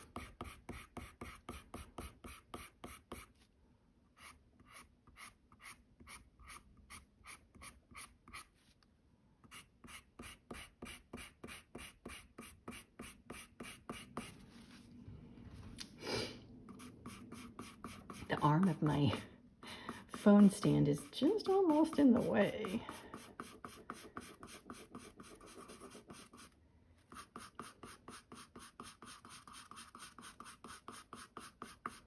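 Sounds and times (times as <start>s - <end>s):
pencil scratching on paper: 0.0s - 3.4s, 4.2s - 8.6s, 9.5s - 14.5s, 16.7s - 19.2s, 19.9s - 32.0s.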